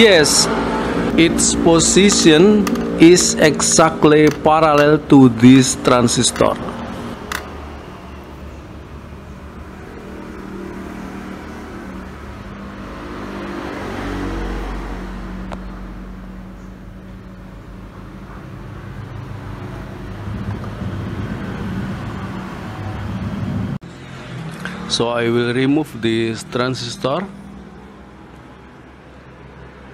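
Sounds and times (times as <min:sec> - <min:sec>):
passing road traffic: 0:00.0 - 0:29.9.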